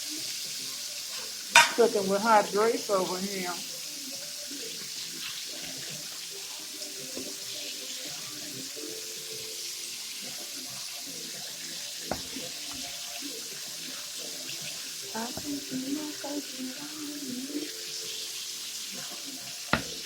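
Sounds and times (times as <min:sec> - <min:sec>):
wings deep-frying in grease: 0:00.0 - 0:20.0.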